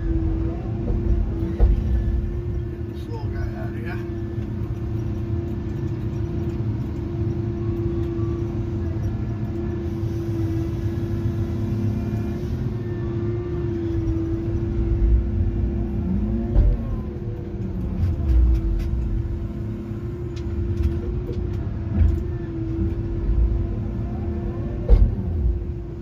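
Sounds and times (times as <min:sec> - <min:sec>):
heavy machine engine rumbling: 0:00.0 - 0:26.0
hydraulic whine: 0:00.0 - 0:26.0.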